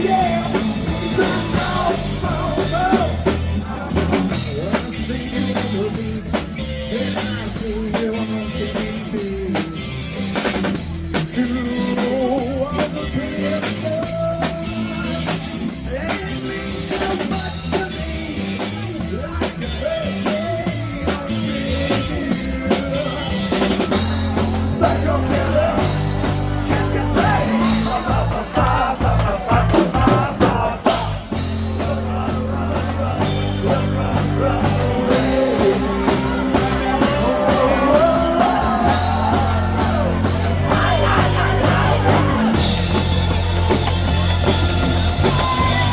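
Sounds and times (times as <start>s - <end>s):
drum kit: 0.0s - 45.9s
live rock band playing: 0.0s - 45.9s.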